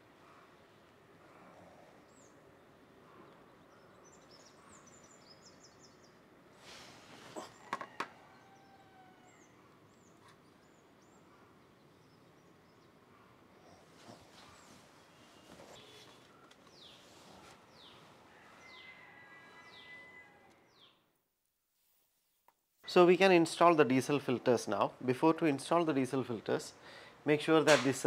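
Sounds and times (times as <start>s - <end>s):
faint birds chirping: 0.0s - 21.2s, 22.2s - 27.5s.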